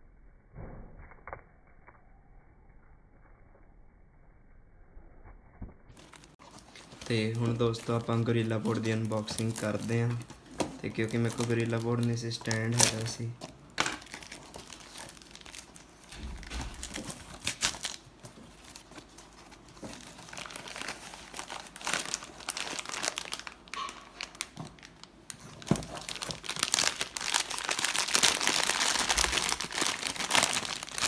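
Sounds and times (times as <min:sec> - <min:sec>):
packaging crinkling and tearing: 0:05.9 - 0:31.0.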